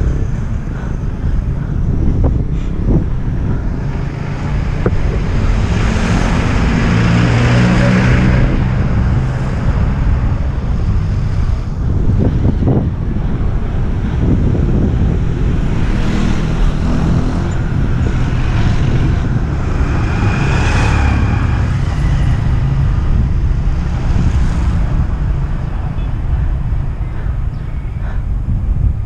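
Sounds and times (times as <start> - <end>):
vehicle passing: 0.0 - 28.9
road traffic: 0.0 - 29.0
wind rumbling on microphone: 0.0 - 29.0.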